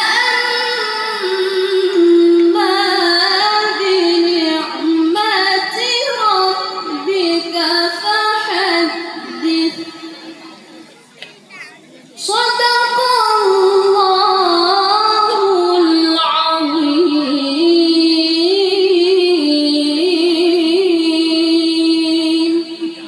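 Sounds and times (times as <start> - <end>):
person reciting melodically: 0.0 - 23.0.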